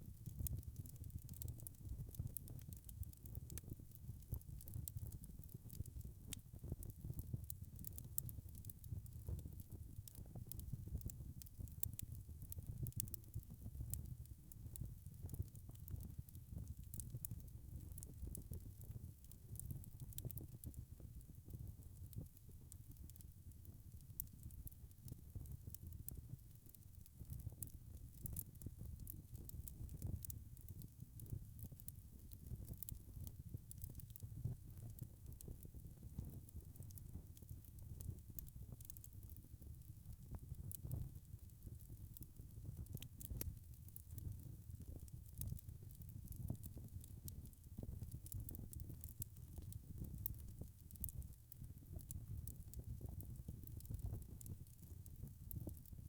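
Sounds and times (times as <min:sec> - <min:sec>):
low rumble of flames: 0:00.0 - 0:56.0
log fire crackling: 0:00.1 - 0:56.0.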